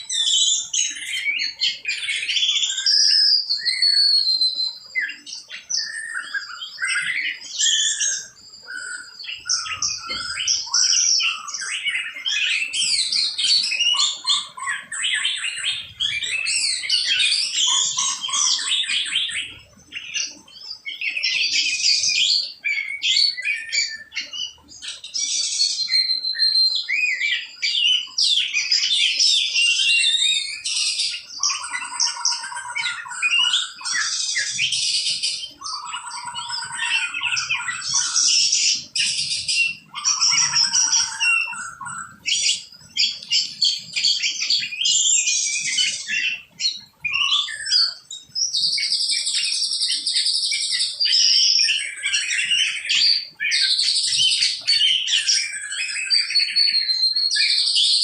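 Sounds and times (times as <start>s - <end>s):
birds chirping: 0.0s - 58.0s
harsh bird call: 0.0s - 58.0s.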